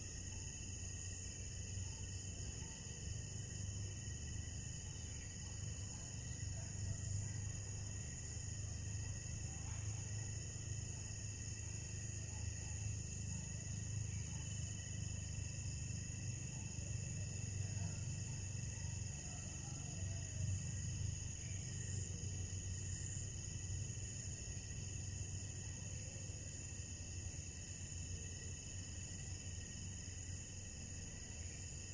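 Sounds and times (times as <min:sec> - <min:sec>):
crickets and insects trilling: 0:00.0 - 0:31.9.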